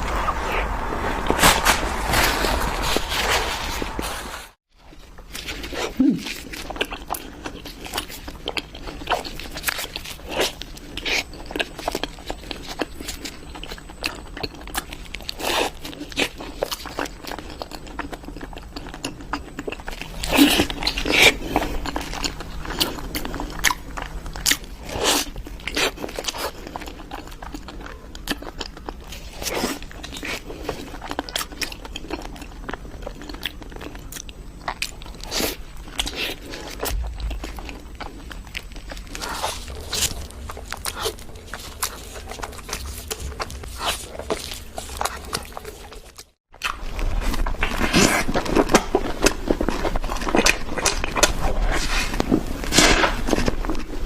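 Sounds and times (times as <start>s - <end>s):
chewing crunchy sweets: 4.8s - 54.0s.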